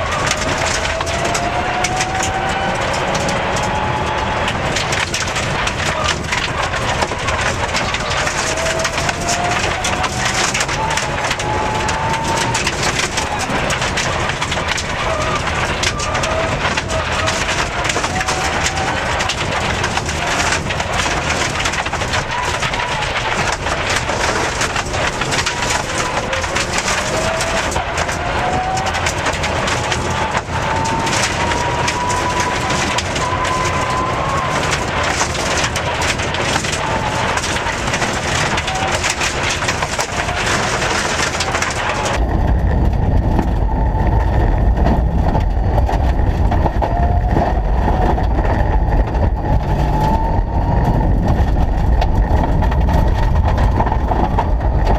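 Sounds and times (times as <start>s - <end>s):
rally car engine revving: 0.0s - 54.9s
tyres roaring on loose gravel: 0.0s - 54.9s.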